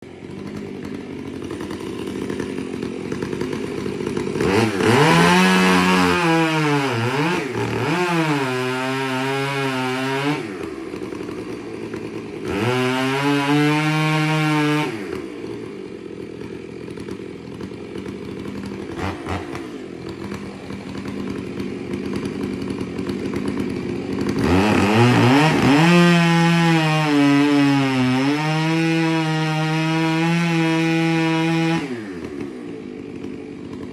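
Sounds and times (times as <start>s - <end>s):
chainsaw cutting tree trunk: 0.0s - 33.9s.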